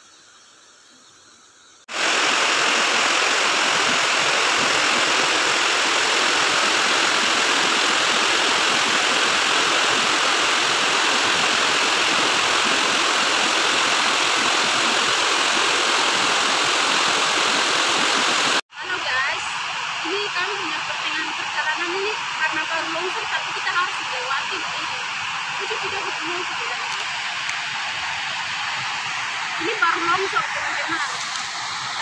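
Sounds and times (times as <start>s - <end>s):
mountain stream rushing over rocks: 1.9s - 32.0s.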